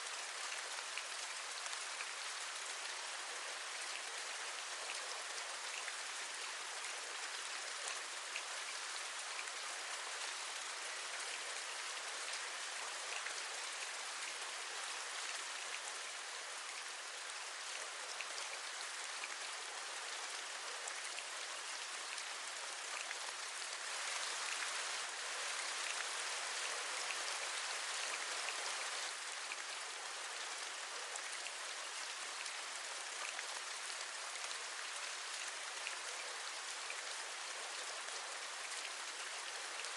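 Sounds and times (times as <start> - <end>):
steady rain with drops tapping: 0.0 - 39.9.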